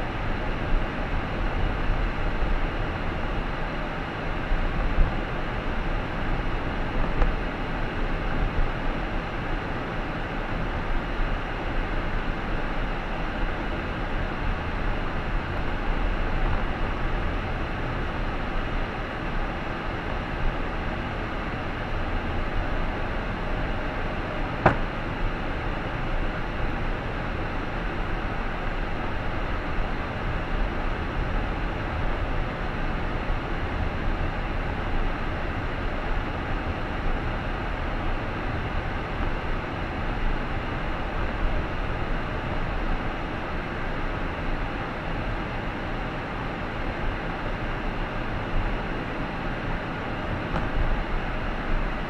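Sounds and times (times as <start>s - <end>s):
road and engine rumble: 0.0s - 52.0s.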